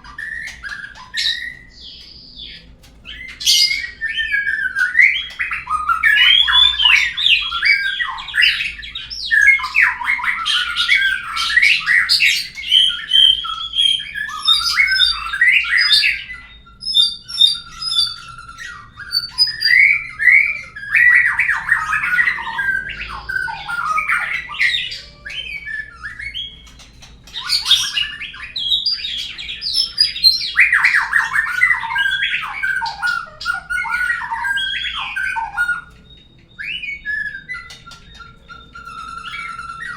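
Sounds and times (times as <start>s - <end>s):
bird song with whistles and chatter: 0.0s - 39.9s.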